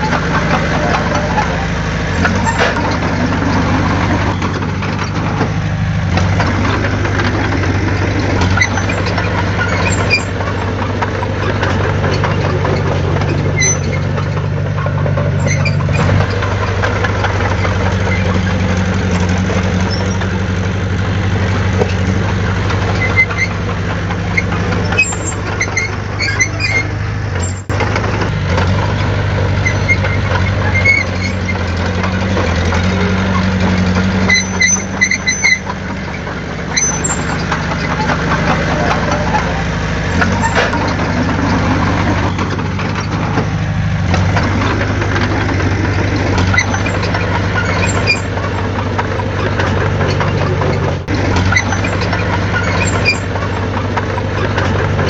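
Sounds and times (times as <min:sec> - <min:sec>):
faint clicks and squeaks: 0:00.0 - 0:55.0
heavy diesel engine running: 0:00.0 - 0:55.0.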